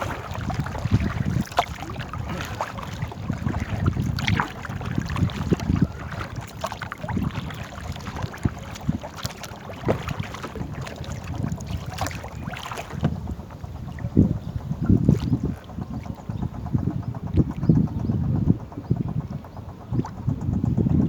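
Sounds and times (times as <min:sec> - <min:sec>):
paddle splashes: 0:00.0 - 0:17.7
low rumbling thumps: 0:00.0 - 0:19.4.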